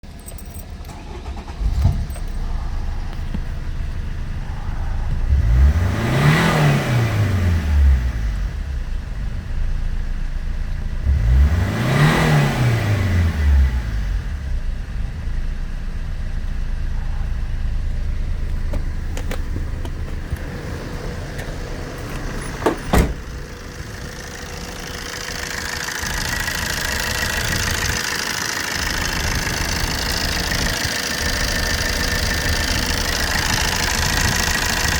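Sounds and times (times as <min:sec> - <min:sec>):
diesel engine starting and revving: 0:00.0 - 0:34.9.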